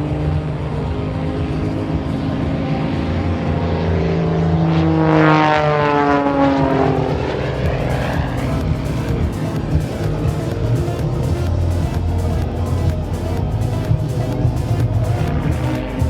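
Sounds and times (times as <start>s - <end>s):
propeller plane flying past: 0.0s - 16.0s.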